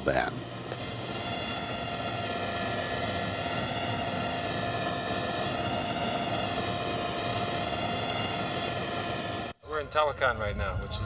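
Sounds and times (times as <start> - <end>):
helicopter turbine whine: 0.0 - 11.0
rushing rotor and engine noise: 0.0 - 11.0.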